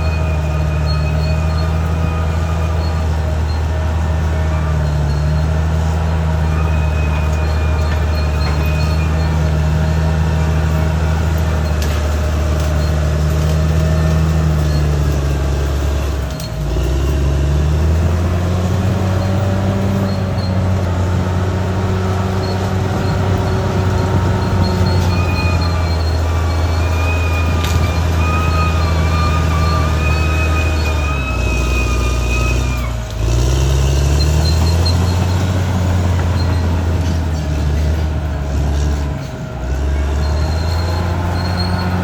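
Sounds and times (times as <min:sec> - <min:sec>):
bulldozer diesel engine: 0:00.0 - 0:42.0.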